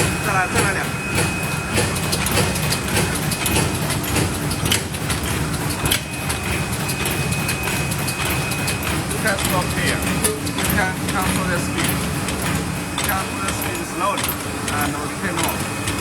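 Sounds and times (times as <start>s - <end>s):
machine clacking strokes: 0.0s - 16.0s
machine mechanical hum: 0.0s - 16.0s.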